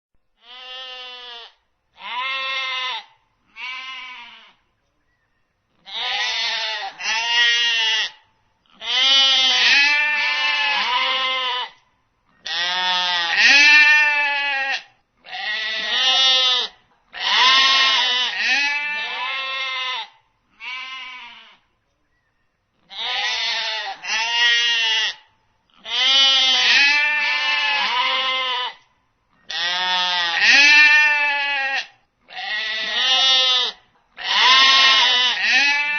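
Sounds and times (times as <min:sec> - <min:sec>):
sheep bleating: 0:00.4 - 0:04.6, 0:05.8 - 0:11.8, 0:12.4 - 0:21.6, 0:22.8 - 0:35.9.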